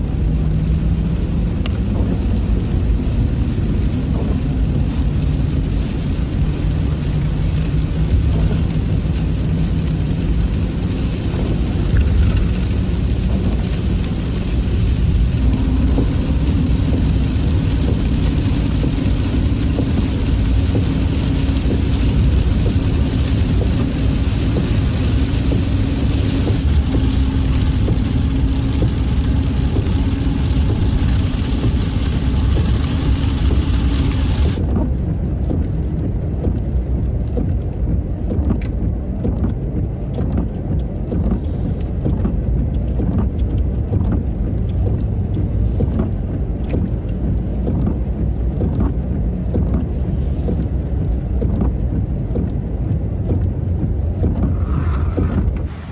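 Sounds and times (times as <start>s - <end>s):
rain and wet tyres hissing: 0.0s - 55.9s
van engine and road rumble: 0.0s - 55.9s.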